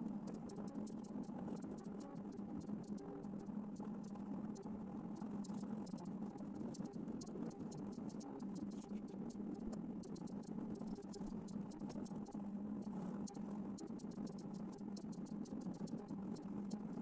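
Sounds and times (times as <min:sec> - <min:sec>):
plotter low hum: 0:00.0 - 0:17.0
plotter ticking and pattering: 0:00.0 - 0:17.0.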